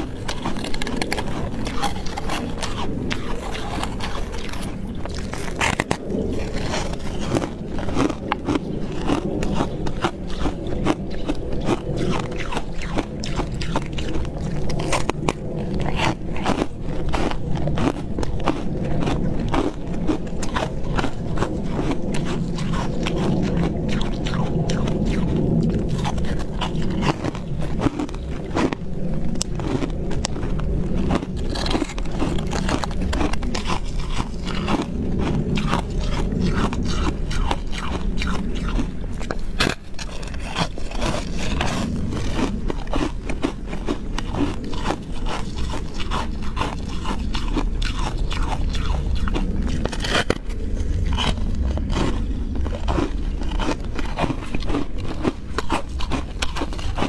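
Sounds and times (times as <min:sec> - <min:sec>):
ice crunching in teeth: 0:00.0 - 0:57.0.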